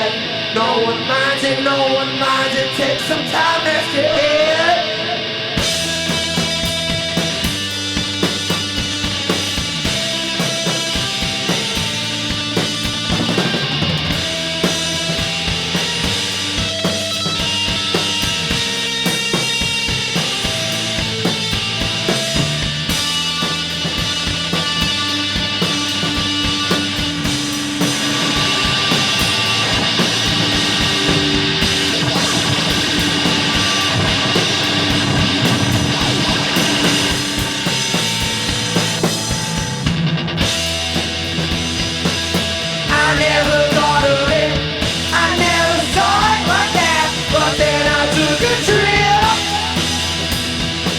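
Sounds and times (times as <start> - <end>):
electric guitar: 0.0 - 50.9
rock band playing: 0.0 - 50.9
drum kit with kick drum: 5.6 - 50.9.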